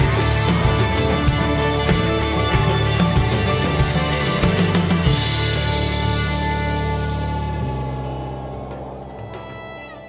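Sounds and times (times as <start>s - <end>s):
string-like chords: 0.0s - 10.0s.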